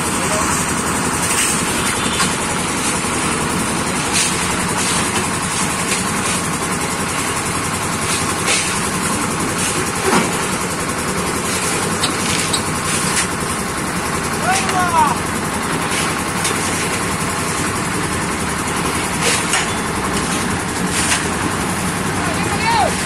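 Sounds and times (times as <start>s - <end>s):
concrete mixer running: 0.0s - 23.0s.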